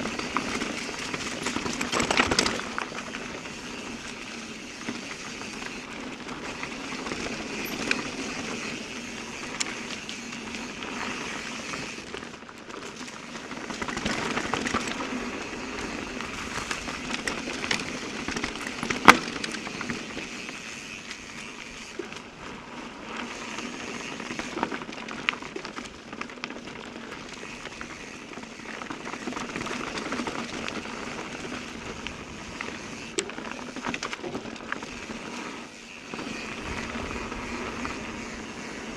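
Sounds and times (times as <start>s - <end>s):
bike clicks and knocks: 0.0s - 38.9s
bike tyres rolling on dirt: 0.0s - 38.9s.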